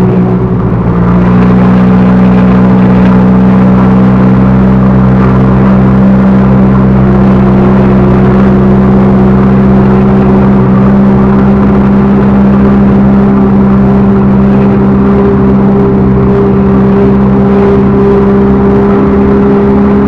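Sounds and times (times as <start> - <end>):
diesel engine at high revs: 0.0 - 20.0.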